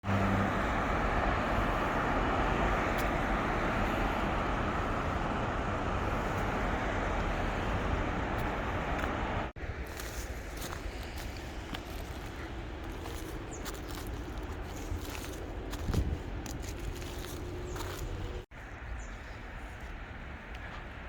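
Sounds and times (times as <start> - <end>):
outdoor roar: 0.0 - 18.6.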